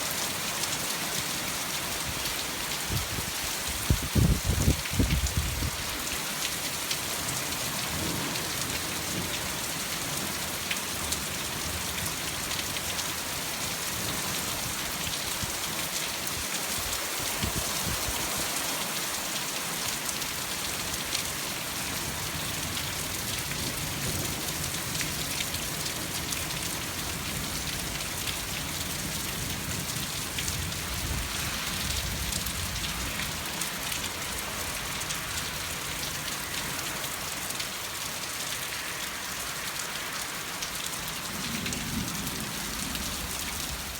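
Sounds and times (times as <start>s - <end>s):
heavy rain pattering: 0.0s - 43.9s.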